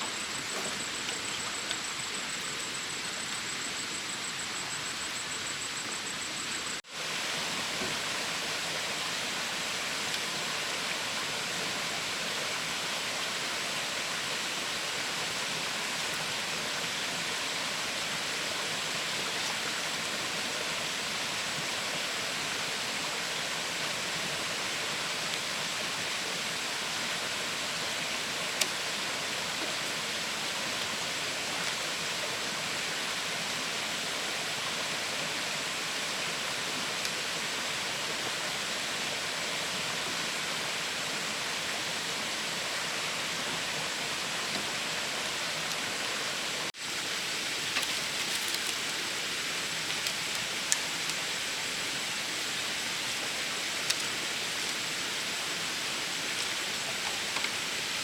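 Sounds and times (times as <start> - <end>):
steady outdoor hiss: 0.0 - 58.0.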